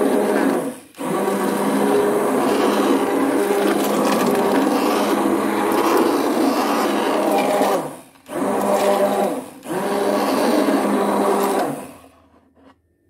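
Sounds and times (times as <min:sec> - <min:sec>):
stick blender motor hum: 0:00.0 - 0:12.7.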